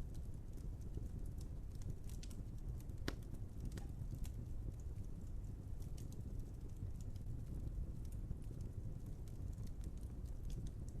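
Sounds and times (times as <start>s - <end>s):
fire crackles: 0.0s - 11.0s
wood fire rumbling: 0.0s - 11.0s.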